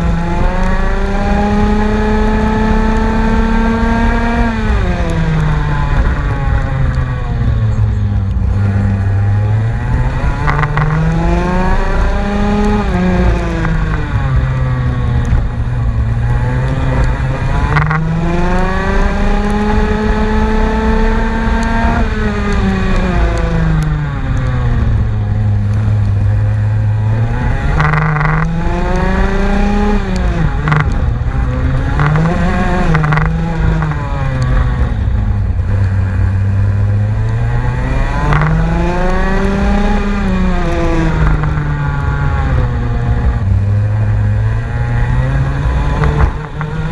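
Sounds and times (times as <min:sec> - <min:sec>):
race car engine accelerating: 0:00.0 - 0:46.9.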